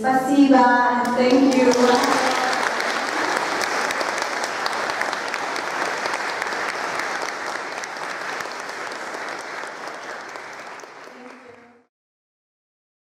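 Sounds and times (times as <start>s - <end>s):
audience applauding: 1.0s - 11.9s.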